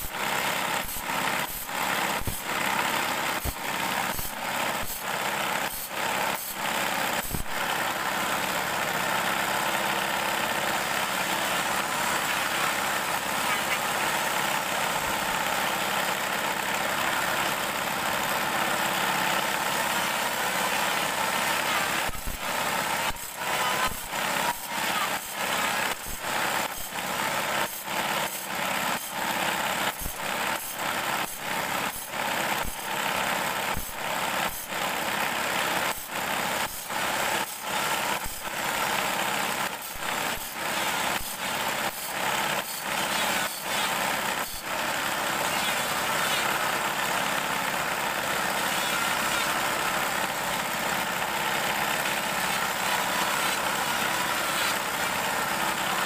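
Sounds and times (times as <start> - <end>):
table saw running: 0.0 - 56.0.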